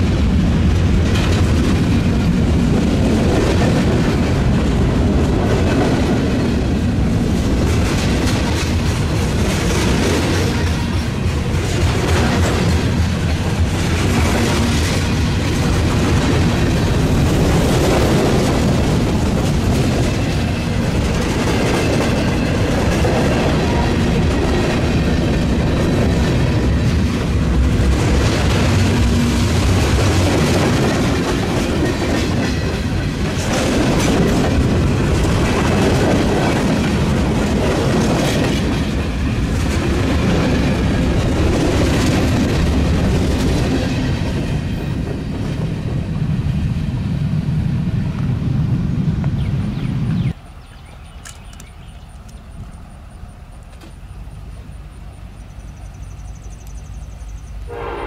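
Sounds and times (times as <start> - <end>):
train wheels rumbling on rail: 0.0 - 58.0
wheels clicking over rail joints: 0.4 - 46.2, 50.6 - 54.9.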